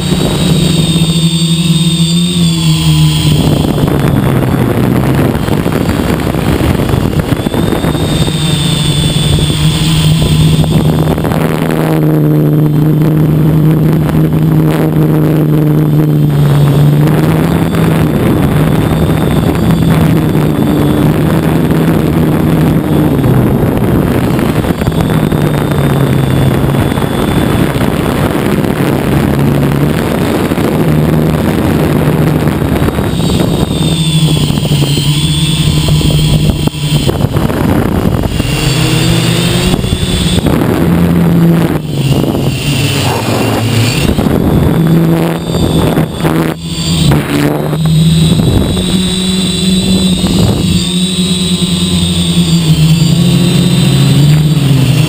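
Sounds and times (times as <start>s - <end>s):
drone motors humming: 0.0s - 55.0s
faint high whine: 0.0s - 55.0s.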